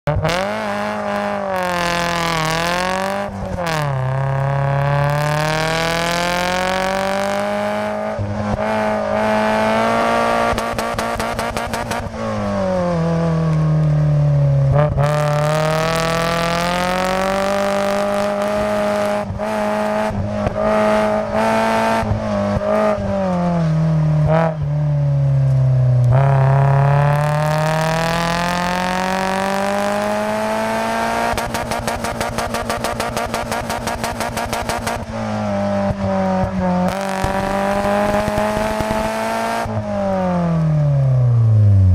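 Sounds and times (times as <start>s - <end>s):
car engine revving: 0.0s - 41.9s
wind and road noise: 0.0s - 41.9s.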